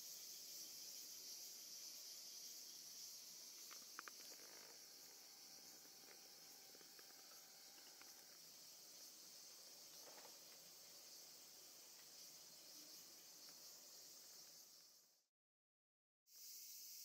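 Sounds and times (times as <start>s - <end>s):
faint high-pitched hiss: 0.0s - 15.3s, 16.3s - 17.0s.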